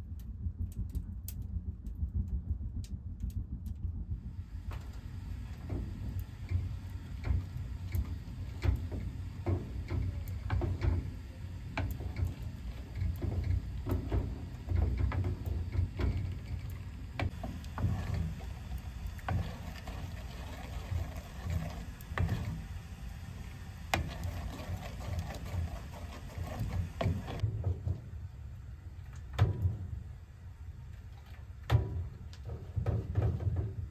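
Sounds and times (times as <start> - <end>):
low rumble: 0.0 - 32.4.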